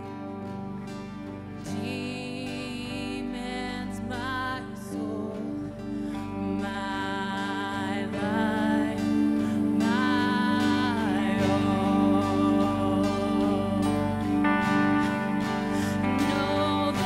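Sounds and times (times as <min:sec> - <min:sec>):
electric and acoustic guitars: 0:00.0 - 0:17.0
woman singing: 0:01.6 - 0:17.0.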